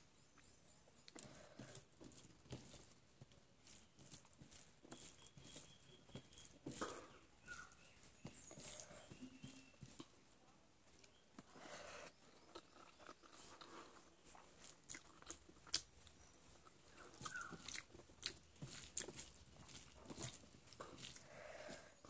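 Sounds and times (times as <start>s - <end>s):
person chewing chicken: 1.0s - 10.2s, 10.9s - 22.0s.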